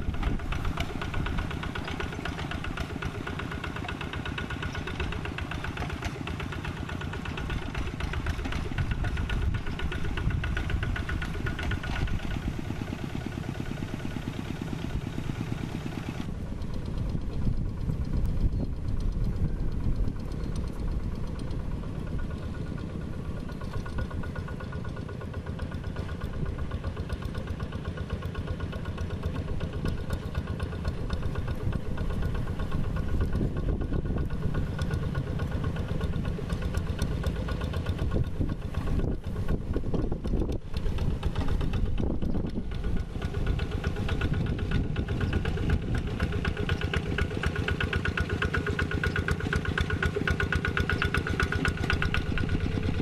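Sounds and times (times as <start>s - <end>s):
diesel tractor engine chugging: 0.0s - 53.0s.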